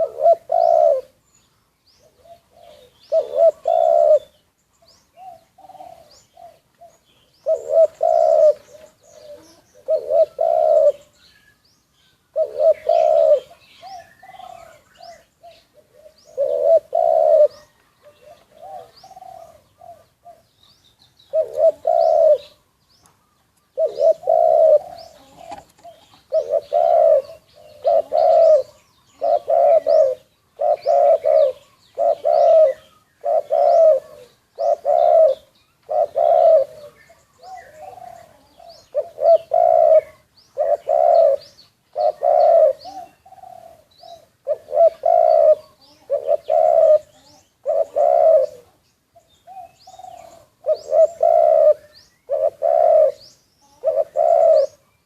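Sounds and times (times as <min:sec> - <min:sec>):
doves cooing: 0:00.0 - 0:01.2, 0:02.0 - 0:04.4, 0:05.1 - 0:11.2, 0:12.3 - 0:20.6, 0:21.3 - 0:54.9
faint small-bird chirps: 0:00.0 - 0:52.5, 0:53.1 - 0:55.0.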